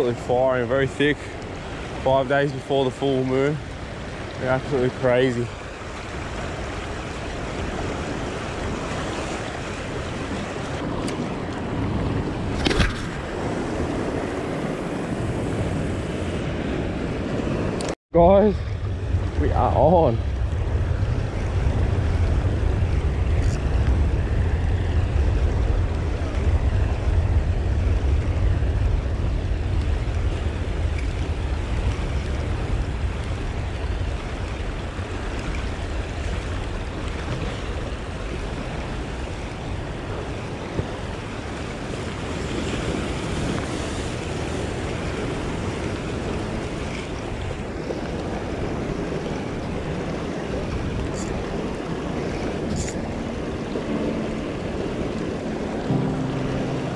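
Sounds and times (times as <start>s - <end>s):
sea washing against rocks: 0.0s - 17.8s, 18.8s - 56.3s
wind buffeting microphone: 3.2s - 56.3s.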